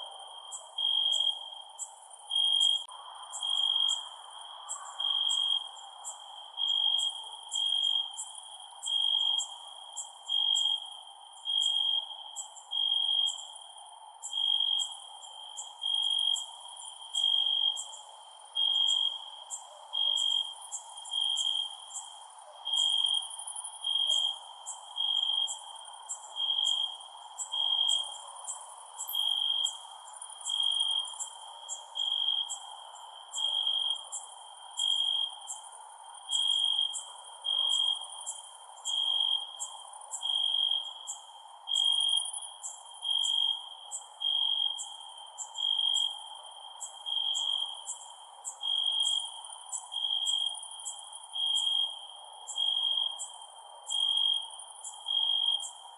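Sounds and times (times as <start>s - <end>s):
cricket chirping: 0.0s - 55.9s
low steady hiss: 0.0s - 55.9s.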